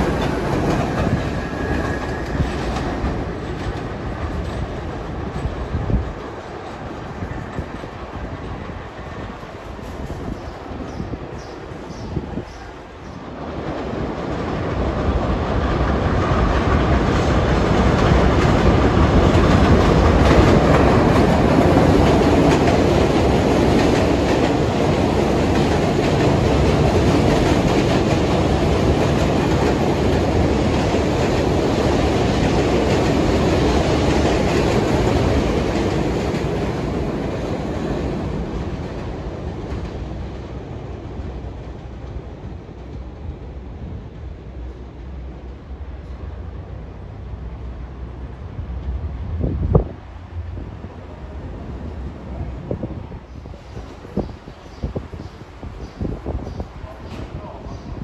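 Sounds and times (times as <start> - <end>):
subway train wheels clacking: 0.0 - 58.0.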